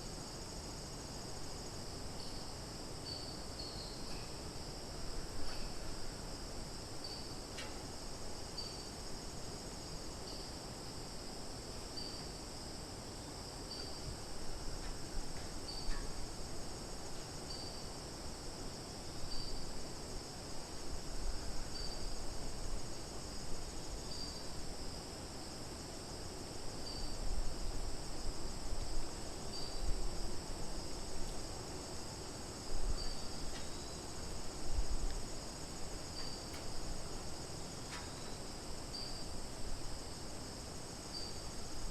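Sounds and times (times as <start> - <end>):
crickets and cicadas trilling: 0.0 - 41.9
short repeating insect call: 0.0 - 41.9.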